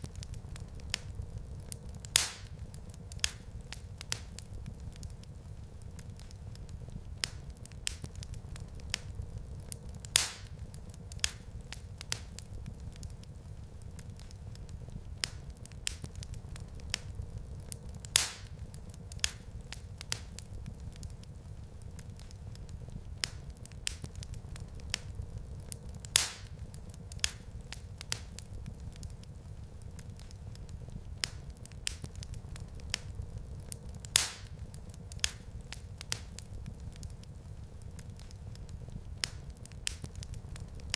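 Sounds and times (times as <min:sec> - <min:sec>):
fire crackling snaps: 0:00.0 - 0:40.9
fire popping: 0:00.0 - 0:40.9
fire rumbling: 0:00.0 - 0:40.9.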